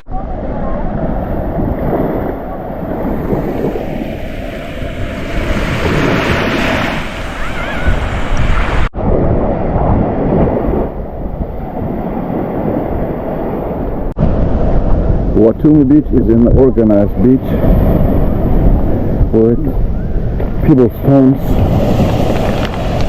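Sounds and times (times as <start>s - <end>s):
sea waves washing onto beach: 0.0s - 15.1s, 17.4s - 23.0s
wind buffeting microphone: 0.0s - 23.0s.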